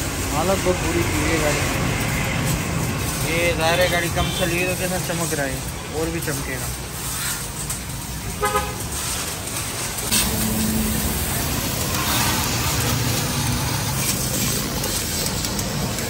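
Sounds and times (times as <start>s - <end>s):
water spraying on metal: 0.0s - 16.0s.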